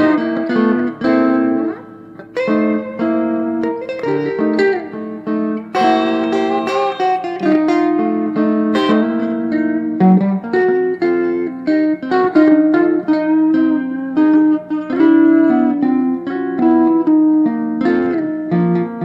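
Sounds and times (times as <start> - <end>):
electric guitars playing chords: 0.0 - 19.0.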